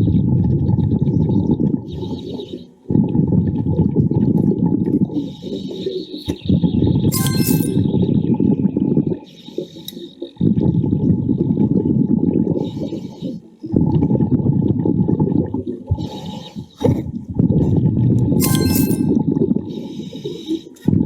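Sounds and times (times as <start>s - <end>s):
exhaled bubbles gurgling underwater: 0.0s - 7.1s, 8.2s - 18.4s.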